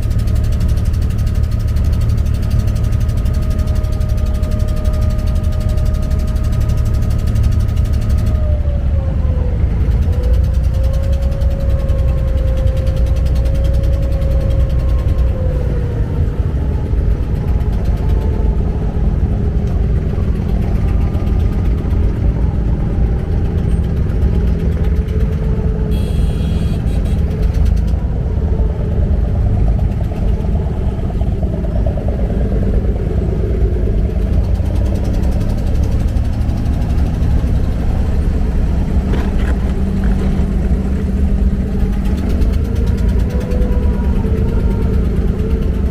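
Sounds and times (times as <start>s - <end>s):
boat diesel engine rumbling: 0.0s - 45.9s.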